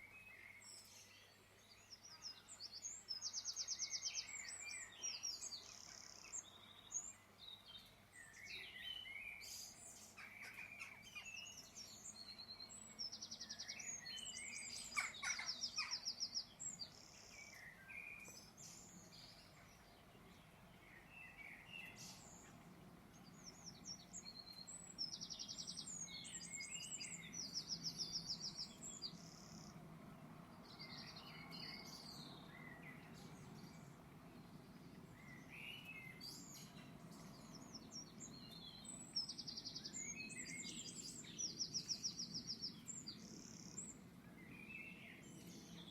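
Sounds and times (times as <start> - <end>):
small birds chirping and trilling: 0.0 - 45.9.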